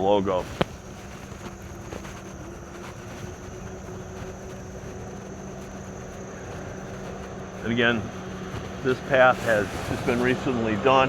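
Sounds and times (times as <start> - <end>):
e-bike motor hum: 0.0 - 11.0
e-bike tyre noise: 0.0 - 11.0
wind noise: 0.0 - 11.0.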